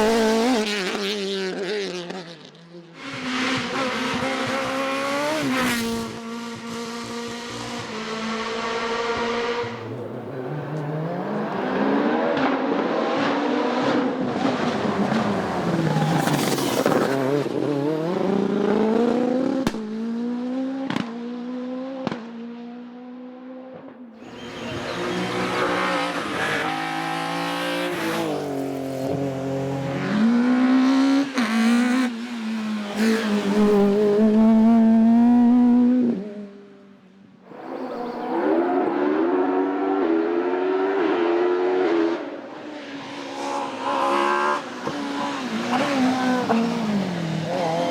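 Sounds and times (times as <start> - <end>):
race car engine at high revs: 0.0 - 23.6, 24.2 - 36.8, 37.5 - 47.9
second race car revving: 3.0 - 22.8, 24.2 - 36.4, 37.5 - 47.9.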